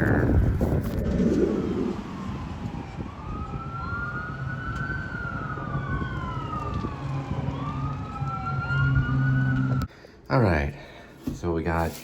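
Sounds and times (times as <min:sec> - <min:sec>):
siren wailing: 0:00.0 - 0:09.9.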